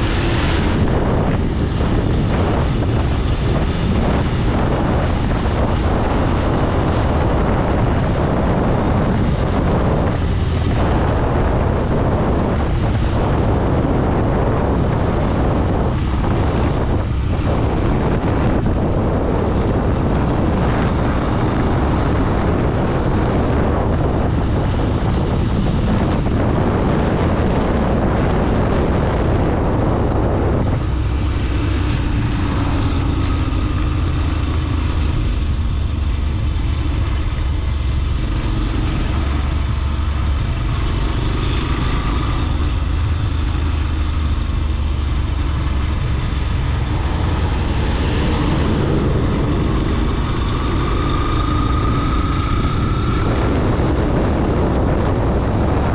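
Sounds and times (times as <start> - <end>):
vehicle engine and road noise: 0.0 - 55.9
wind rushing over microphone: 0.0 - 55.9.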